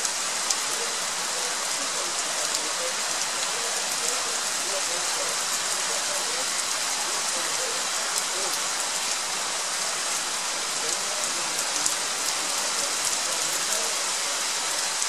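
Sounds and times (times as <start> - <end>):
rain falling on surfaces: 0.0 - 15.0
raindrops ticking close by: 0.0 - 15.0.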